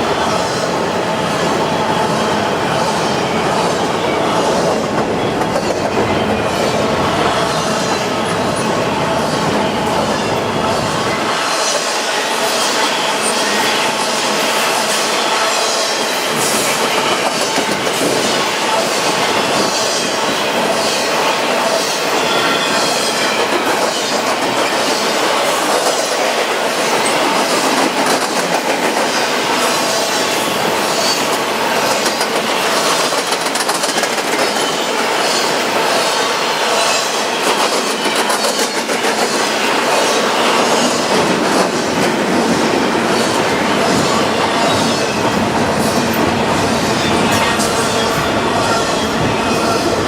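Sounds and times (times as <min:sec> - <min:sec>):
freight train wheels rushing: 0:00.0 - 0:50.0.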